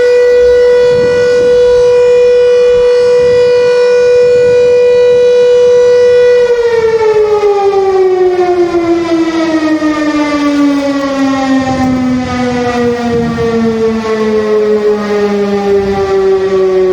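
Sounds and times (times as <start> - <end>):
emergency siren wailing: 0.0 - 16.9
second siren tone: 0.0 - 16.9.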